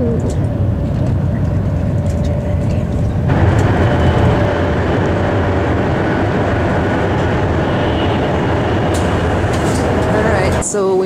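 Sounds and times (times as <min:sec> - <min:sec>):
train rumble and hiss: 0:00.0 - 0:11.0.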